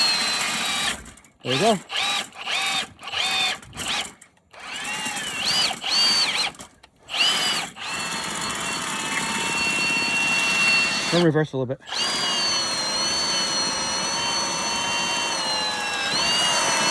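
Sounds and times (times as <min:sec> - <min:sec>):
cordless drill motor whining: 0:00.0 - 0:16.9.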